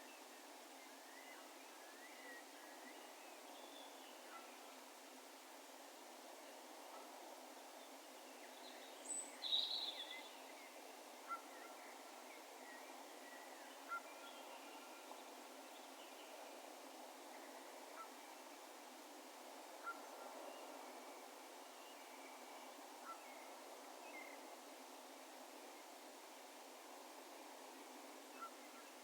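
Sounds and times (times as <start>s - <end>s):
rural background hiss: 0.0s - 29.0s.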